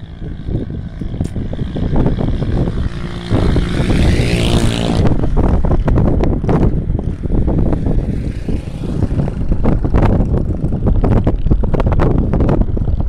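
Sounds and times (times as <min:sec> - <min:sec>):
motor drone: 0:00.0 - 0:13.0
wind buffeting microphone: 0:00.0 - 0:13.0.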